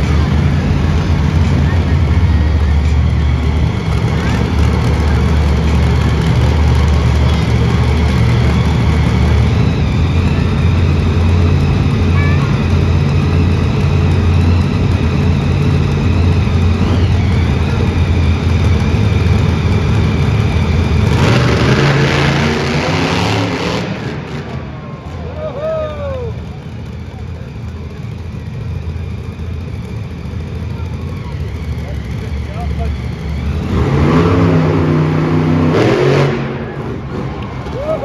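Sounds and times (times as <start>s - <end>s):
monster truck engine revving: 0.0s - 38.0s.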